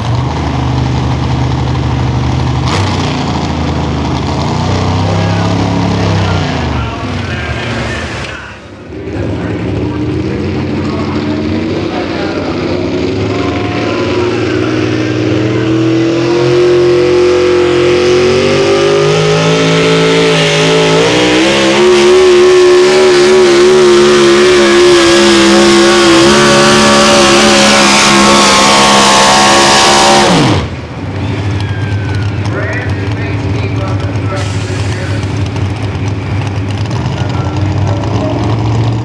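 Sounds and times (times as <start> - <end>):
engine at full throttle: 0.0 - 39.0.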